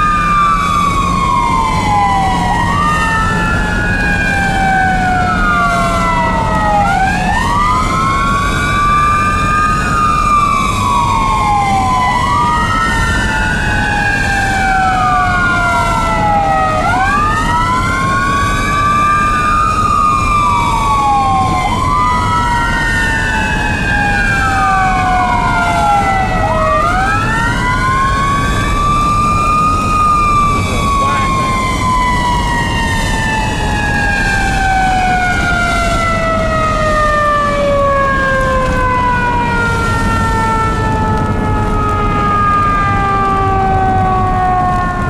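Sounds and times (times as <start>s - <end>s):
electronic sirens wailing: 0.0s - 45.0s
road and engine rumble: 0.0s - 45.0s.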